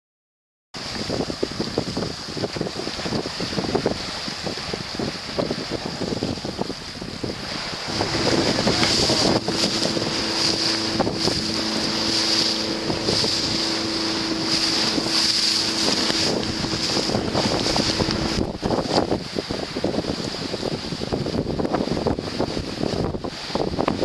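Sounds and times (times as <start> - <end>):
boat motor running: 0.8 - 24.0
sea washing around hull: 0.8 - 24.0
wind buffeting microphone: 0.8 - 24.0.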